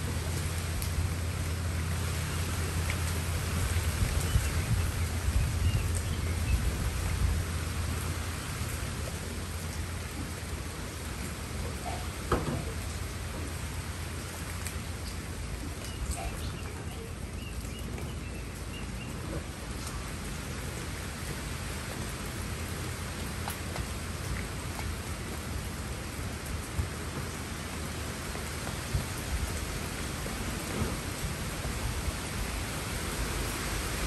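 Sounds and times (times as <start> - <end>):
rain on leaves: 0.0 - 34.0.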